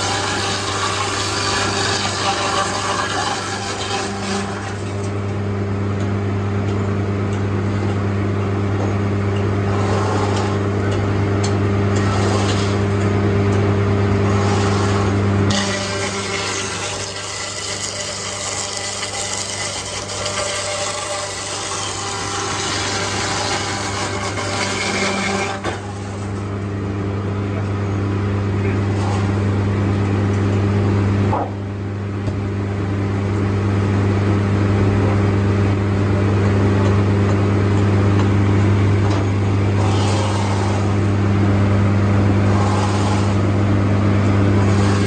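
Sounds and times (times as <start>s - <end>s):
heavy machinery mechanical noise: 0.0s - 45.0s
machinery low hum: 0.0s - 45.0s.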